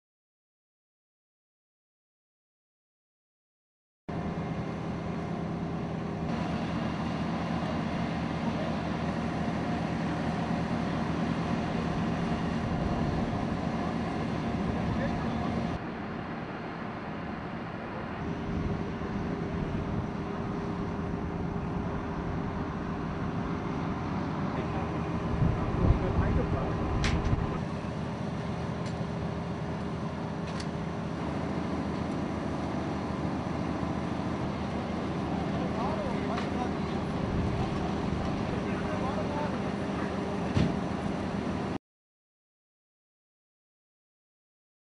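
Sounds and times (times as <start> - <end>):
vehicle engines idling: 4.1 - 41.8.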